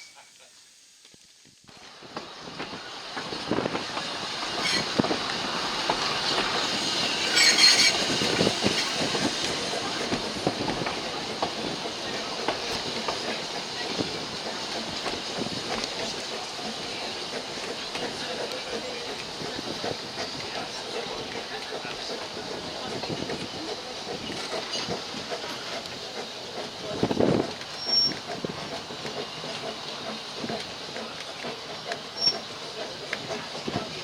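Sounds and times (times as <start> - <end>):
train carriage rumble: 1.2 - 34.0.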